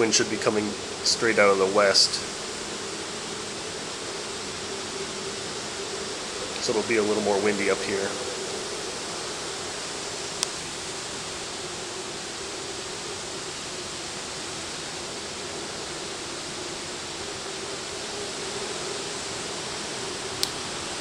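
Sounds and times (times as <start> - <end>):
wind rushing: 0.0 - 21.0.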